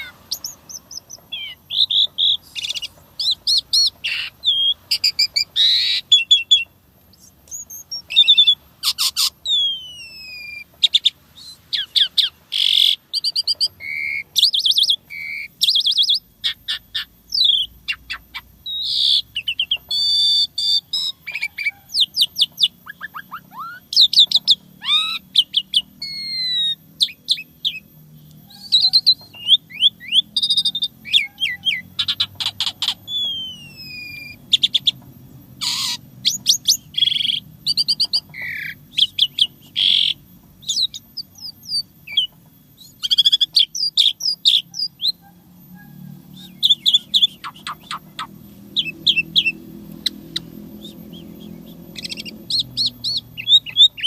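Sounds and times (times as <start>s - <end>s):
starling singing varied song: 0.0s - 54.0s.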